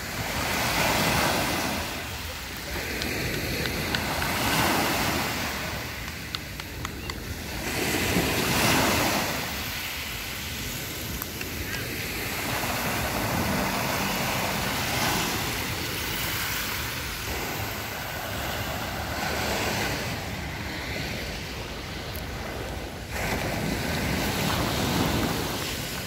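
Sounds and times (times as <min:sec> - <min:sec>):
small waves breaking on shore: 0:00.0 - 0:26.0
wind on microphone: 0:00.0 - 0:26.0.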